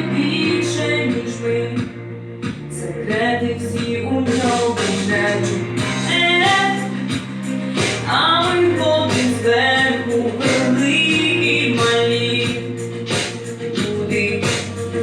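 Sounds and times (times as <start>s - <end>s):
pop-rock ballad music: 0.0s - 15.0s.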